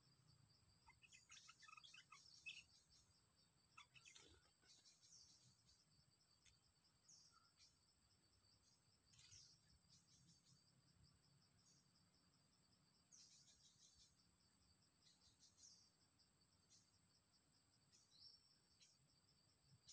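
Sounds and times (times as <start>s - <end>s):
faint bird chirps: 0.0s - 19.9s.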